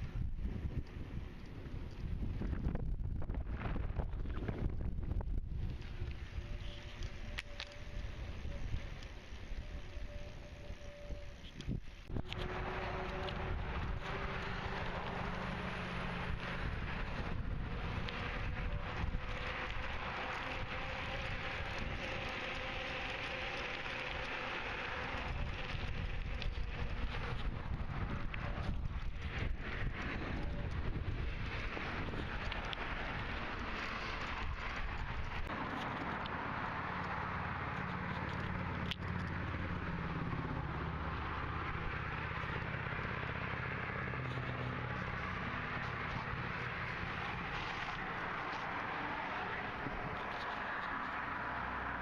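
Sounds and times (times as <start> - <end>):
bicycle tyre noise: 0.0 - 52.0.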